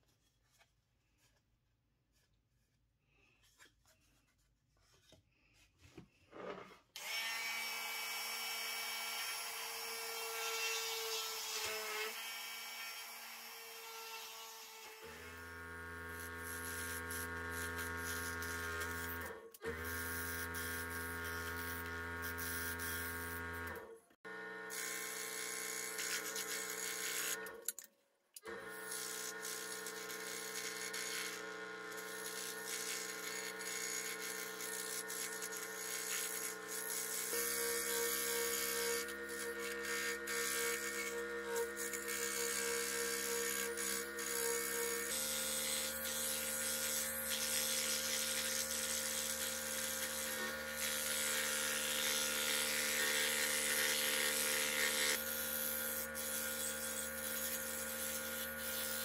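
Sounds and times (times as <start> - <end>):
scroll saw cutting wood: 6.4 - 27.8, 28.4 - 59.0
electric drill whining: 6.9 - 27.6, 28.4 - 59.0.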